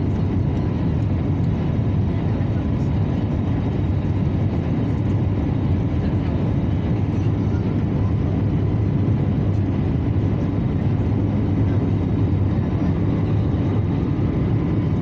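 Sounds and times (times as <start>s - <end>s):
aircraft cabin engine and airflow rush: 0.0s - 15.0s.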